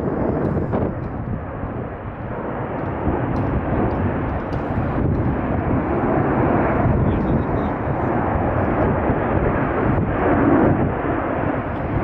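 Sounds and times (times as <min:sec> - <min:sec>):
jets passing overhead: 0:00.0 - 0:12.0.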